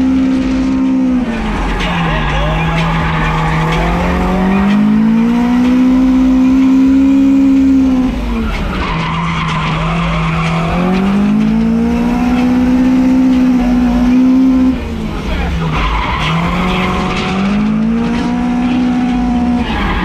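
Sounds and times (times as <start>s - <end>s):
car engine revving high: 0.0s - 20.0s
tyres skidding: 0.0s - 20.0s.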